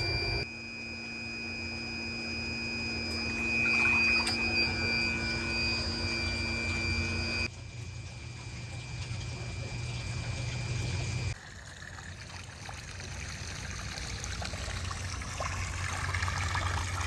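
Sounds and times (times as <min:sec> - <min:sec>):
electric water pump whining: 0:00.0 - 0:17.0
water noise: 0:03.1 - 0:17.0.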